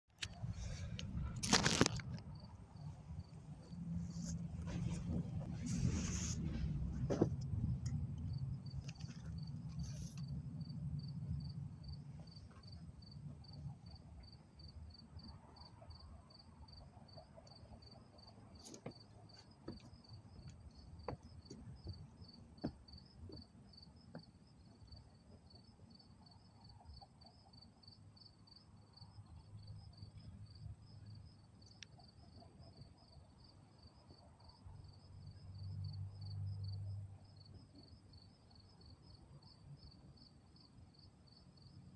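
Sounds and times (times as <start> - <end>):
cricket chirping: 0.2 - 4.4, 6.5 - 41.9.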